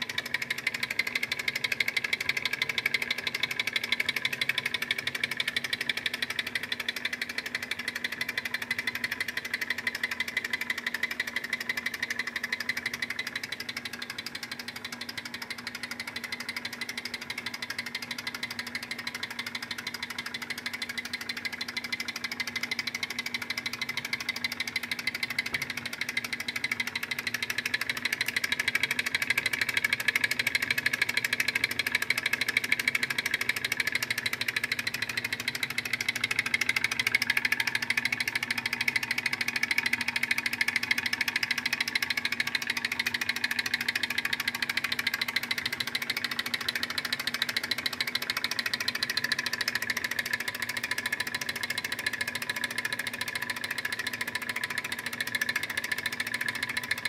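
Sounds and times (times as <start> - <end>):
stirling engine ticking clatter: 0.0 - 57.0.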